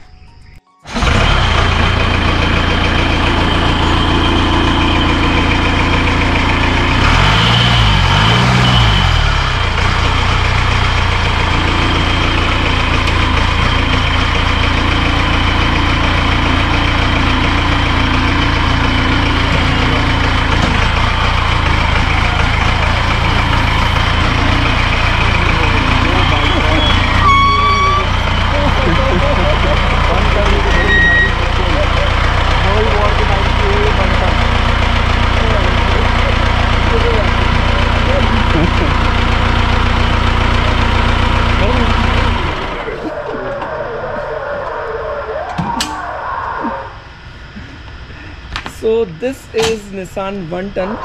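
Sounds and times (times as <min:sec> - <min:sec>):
truck engine idling and revving: 0:00.0 - 0:51.0.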